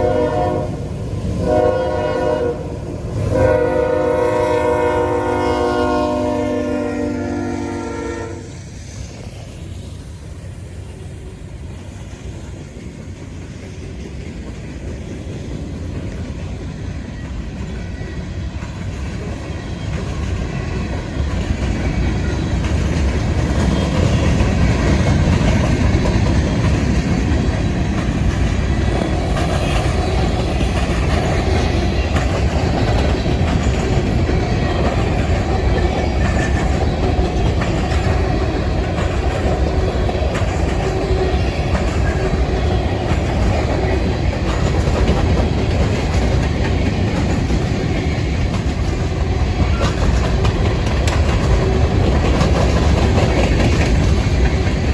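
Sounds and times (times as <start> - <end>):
train wheels on rails: 0.0 - 54.9.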